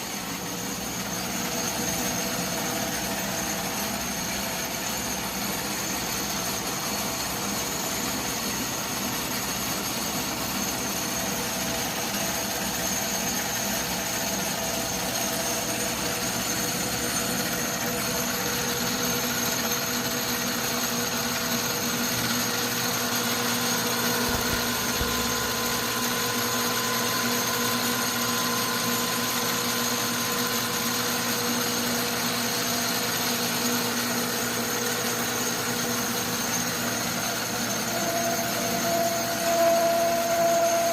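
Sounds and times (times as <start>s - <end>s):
metal lathe humming and whining: 0.0s - 40.9s.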